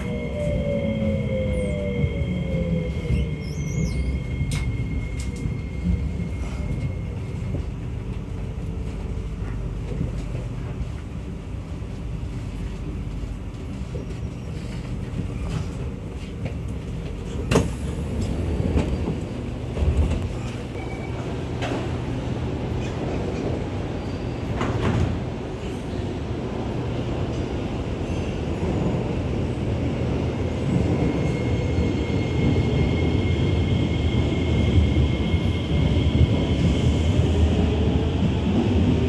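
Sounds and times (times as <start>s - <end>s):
train rumble and hum: 0.0s - 39.0s.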